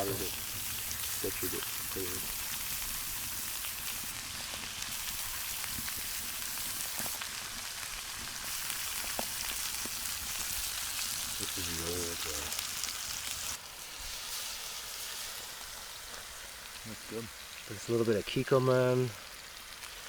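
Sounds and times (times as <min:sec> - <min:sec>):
pork chops sizzling: 0:00.0 - 0:20.0.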